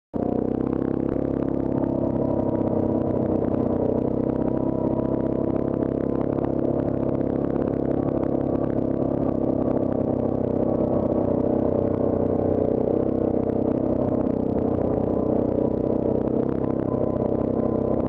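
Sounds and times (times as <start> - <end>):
quad bike engine running: 0.2 - 18.0.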